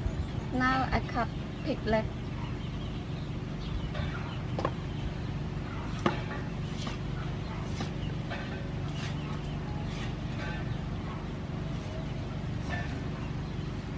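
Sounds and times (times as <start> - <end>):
chickens clucking: 2.2 - 13.9.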